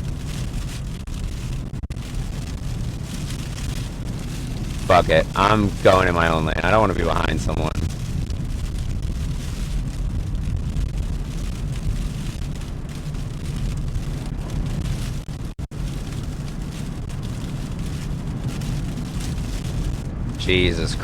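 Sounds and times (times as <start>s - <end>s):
road and wind noise in car: 0.0s - 21.0s.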